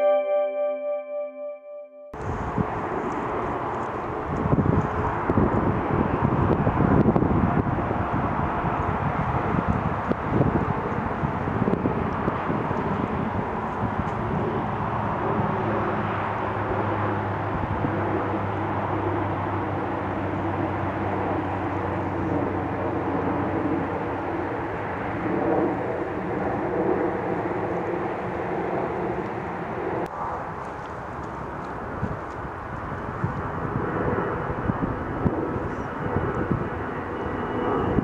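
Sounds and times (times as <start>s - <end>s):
propeller plane droning overhead: 2.1s - 38.0s.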